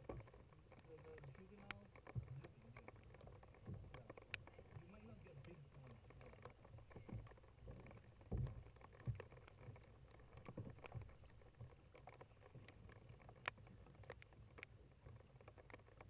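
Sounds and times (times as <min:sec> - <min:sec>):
small clicks: 0:00.0 - 0:16.0.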